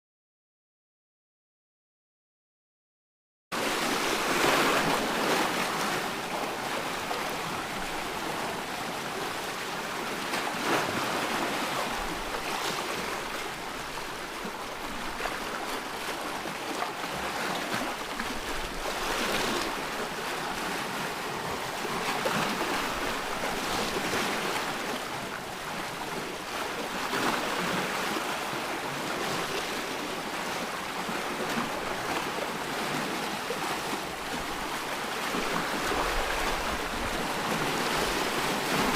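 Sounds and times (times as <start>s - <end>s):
waves breaking on shore: 3.6s - 38.9s.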